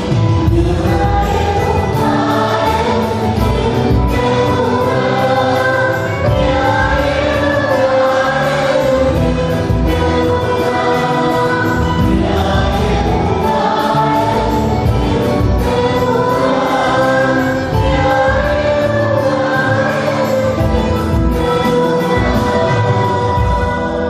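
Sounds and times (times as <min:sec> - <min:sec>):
choir singing a hymn: 0:00.0 - 0:24.0
instrumental accompaniment: 0:00.0 - 0:24.0.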